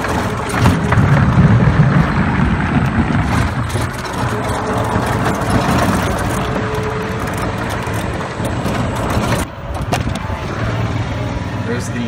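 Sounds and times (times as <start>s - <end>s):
tyres crunching on gravel: 0.0s - 10.3s
golf cart motor running: 0.0s - 11.8s.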